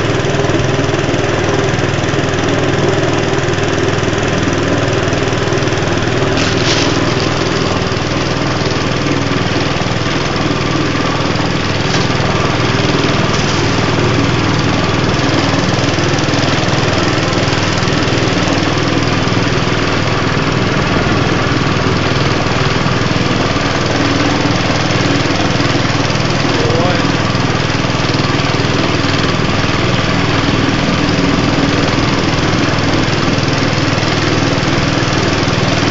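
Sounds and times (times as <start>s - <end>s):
small boat engine running: 0.0s - 35.9s.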